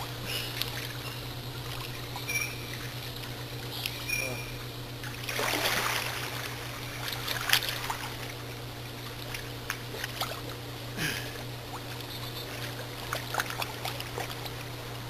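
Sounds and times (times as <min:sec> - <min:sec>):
pool water splashing: 0:00.0 - 0:03.8, 0:04.6 - 0:15.0
steady low hum: 0:00.0 - 0:15.0.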